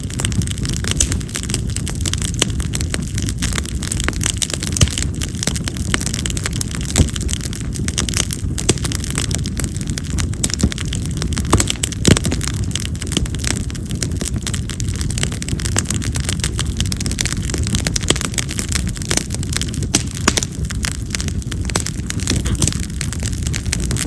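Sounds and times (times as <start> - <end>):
fire flames rushing: 0.0 - 24.0
firewood crackling and popping: 0.0 - 24.0.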